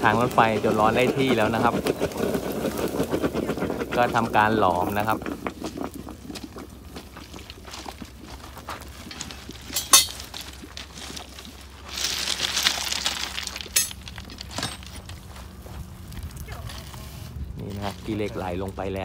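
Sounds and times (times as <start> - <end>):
thermite charge crackling: 0.0 - 19.0.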